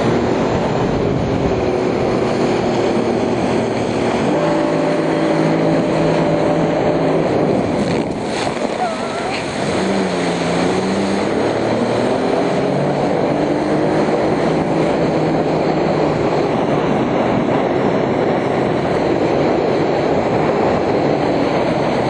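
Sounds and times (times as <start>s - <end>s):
jet ski engine running: 0.0s - 22.0s
water rushing: 0.0s - 22.0s
wind noise: 0.0s - 22.0s.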